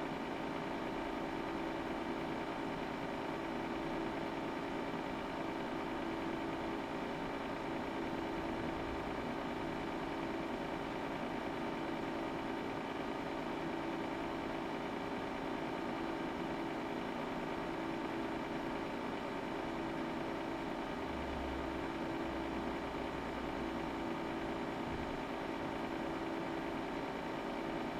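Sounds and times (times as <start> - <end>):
cooling fans whirring: 2.4 - 27.9.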